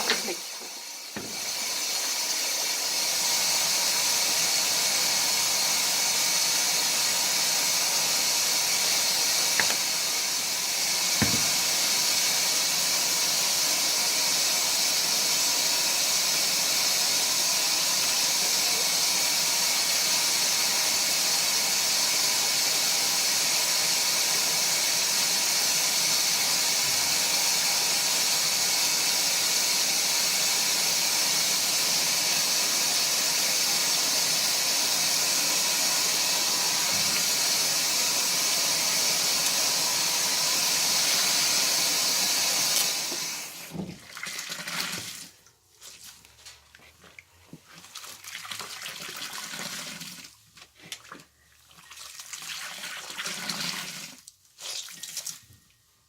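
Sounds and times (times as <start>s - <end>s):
water hissing into washing machine: 0.0s - 45.5s, 47.7s - 50.4s, 51.0s - 55.4s.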